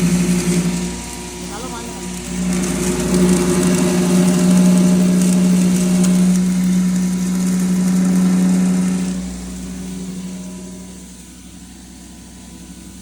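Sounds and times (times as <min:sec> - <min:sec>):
grinder machine humming: 0:00.0 - 0:13.0
maize rattling in grinder: 0:00.0 - 0:13.0.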